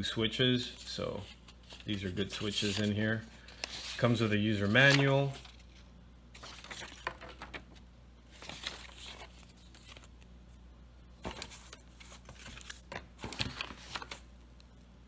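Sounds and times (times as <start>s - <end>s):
paper and plastic rustling: 0.7s - 10.3s, 11.2s - 14.7s.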